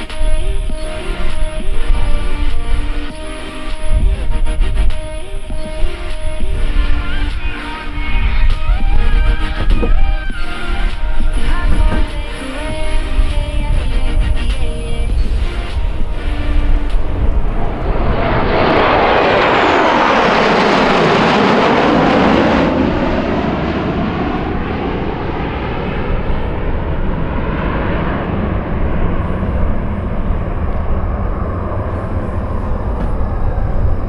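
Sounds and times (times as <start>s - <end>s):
jet engines roaring past: 0.0s - 34.0s.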